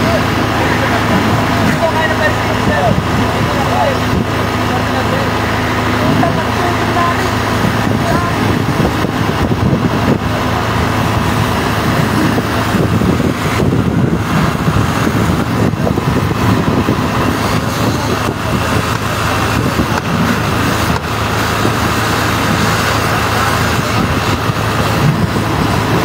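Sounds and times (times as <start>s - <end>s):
fire truck engine running: 0.0s - 26.0s.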